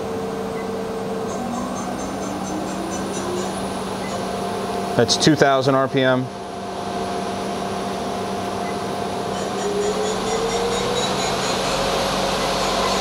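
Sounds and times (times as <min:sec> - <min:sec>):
machine spindle humming: 0:00.0 - 0:13.0
spindle rising whine: 0:00.0 - 0:13.0.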